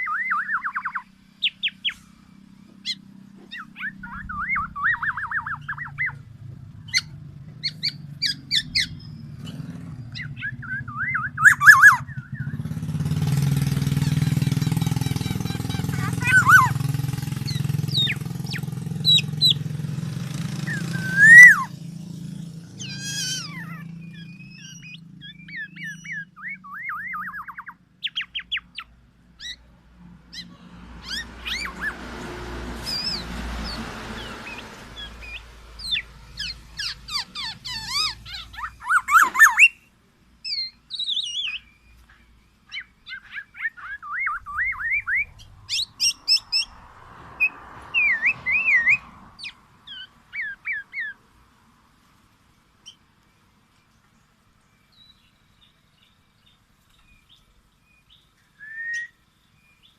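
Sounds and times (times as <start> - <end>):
bird calling with whistled notes: 0.0 - 29.7, 30.3 - 32.2, 32.8 - 46.8, 47.4 - 51.2, 52.8 - 59.9
low engine hum: 0.0 - 59.9.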